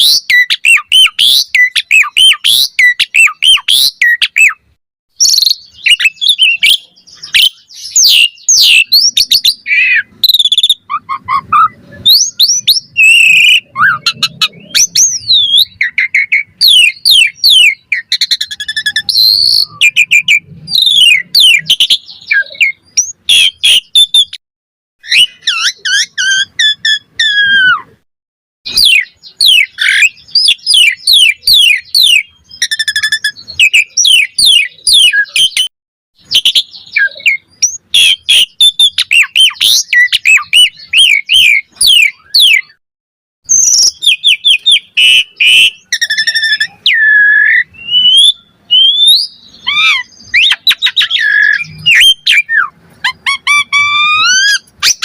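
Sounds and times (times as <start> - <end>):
starling singing: 0.0 - 24.4, 25.0 - 28.0, 28.7 - 42.8, 43.5 - 55.0.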